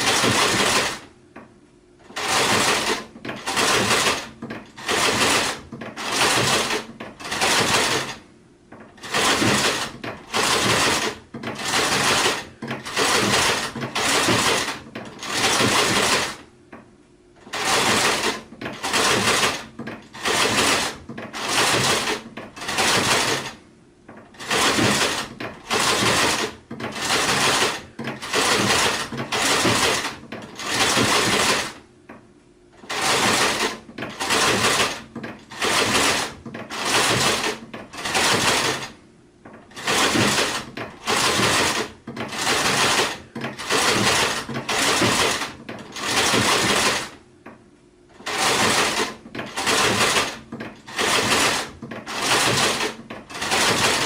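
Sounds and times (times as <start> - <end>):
sewing machine stitching: 0.0 - 1.1, 2.0 - 16.5, 17.4 - 31.8, 32.8 - 47.2, 48.1 - 54.0.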